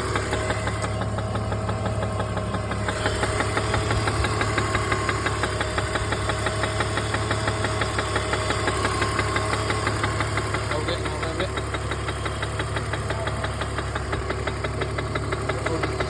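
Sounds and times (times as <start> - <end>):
car engine humming: 0.0 - 16.0
fast engine ticking: 0.0 - 16.0.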